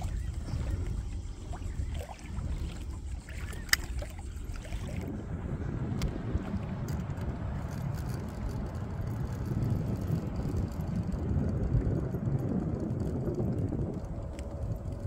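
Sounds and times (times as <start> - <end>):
water lapping against kayak hull: 0.0 - 15.0
wind buffeting microphone: 0.0 - 15.0.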